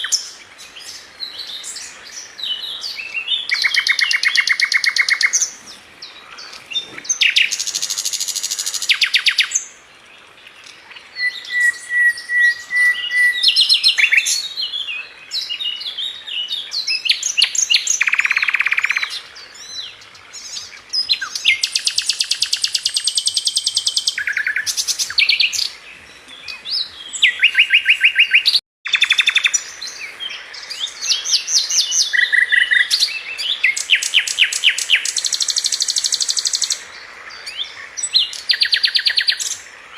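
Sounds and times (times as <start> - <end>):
bird singing trills and whistles: 0.0 - 5.7, 11.1 - 39.7.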